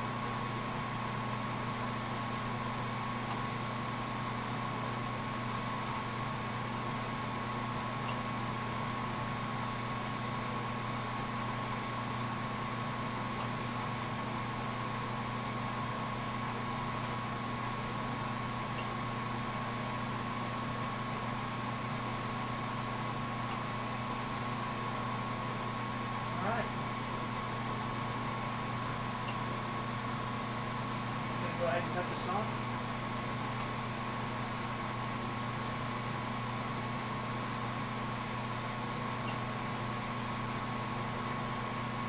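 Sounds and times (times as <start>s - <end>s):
constant hum: 0.0s - 42.0s.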